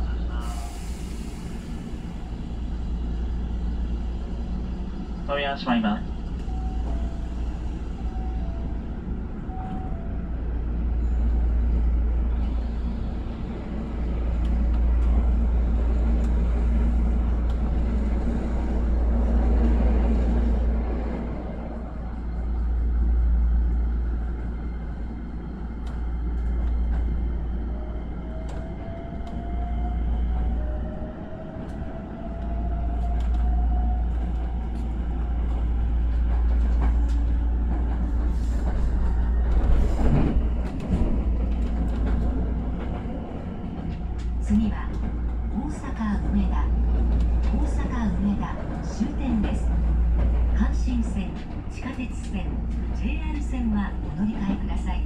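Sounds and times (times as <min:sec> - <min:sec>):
train running gear rumble: 0:00.0 - 0:55.0.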